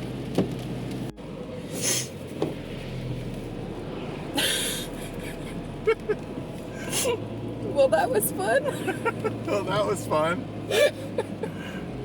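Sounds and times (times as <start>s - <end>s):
road noise inside vehicle: 0.0s - 12.0s.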